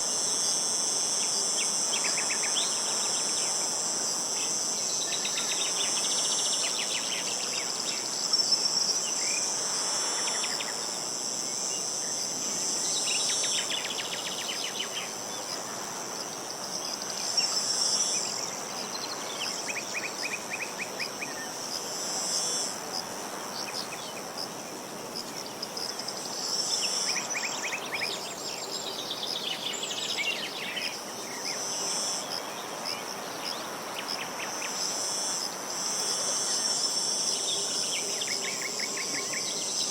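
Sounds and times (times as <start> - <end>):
insects chirring: 0.0 - 39.9
light background hiss: 0.0 - 39.9.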